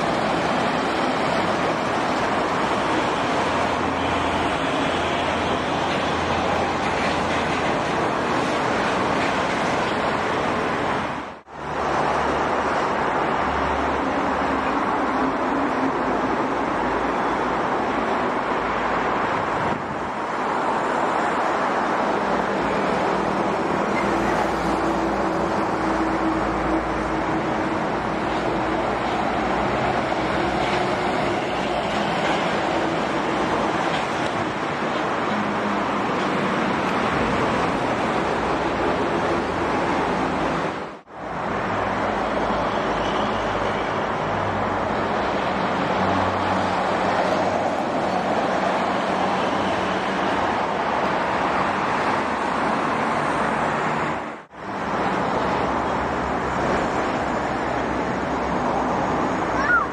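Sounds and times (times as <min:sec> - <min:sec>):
dense highway traffic: 0:00.0 - 0:59.9.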